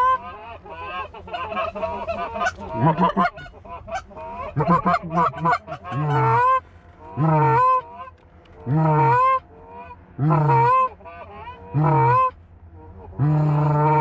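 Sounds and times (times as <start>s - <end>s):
goose clucking: 0.0s - 14.0s
goose honks: 0.0s - 14.0s.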